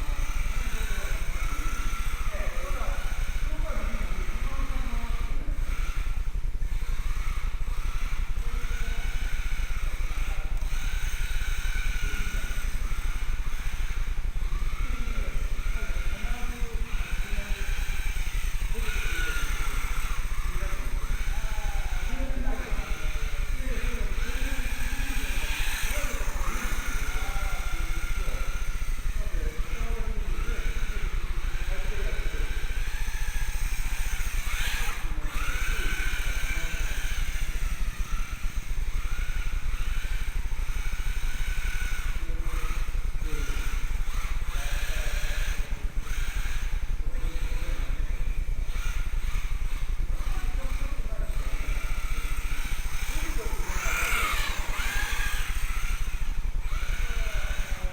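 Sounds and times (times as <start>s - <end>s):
rc car motor whining: 0.0s - 57.9s.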